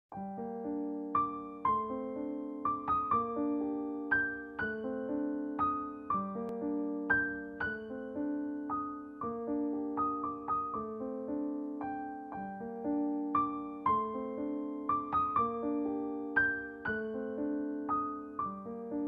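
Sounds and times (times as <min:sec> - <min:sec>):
gentle piano piece: 0:00.1 - 0:19.0.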